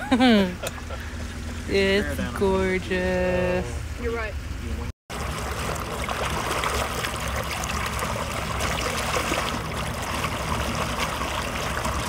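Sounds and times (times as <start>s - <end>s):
lake water splashing and rushing: 0.0s - 12.0s.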